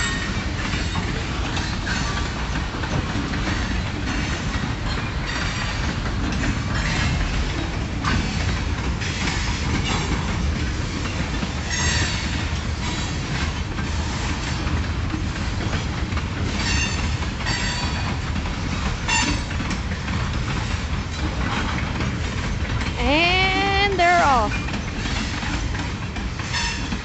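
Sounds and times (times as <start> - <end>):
freight cars rumbling on rails: 0.0 - 27.0.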